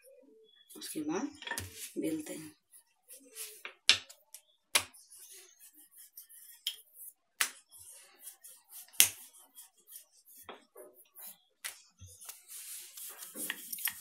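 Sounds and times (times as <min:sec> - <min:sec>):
soft rubbing of dough: 0:00.5 - 0:03.7, 0:04.4 - 0:14.0.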